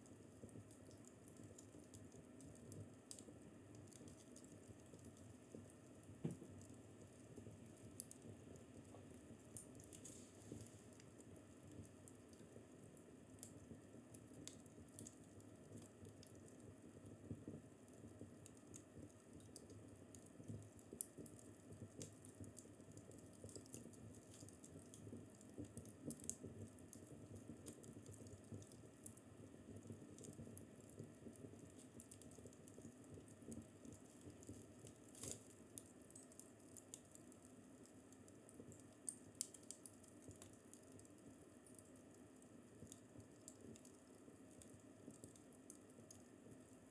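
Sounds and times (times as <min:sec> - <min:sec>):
low rumble of burning: 0:00.0 - 0:46.9
wood fire crackling: 0:00.0 - 0:46.9.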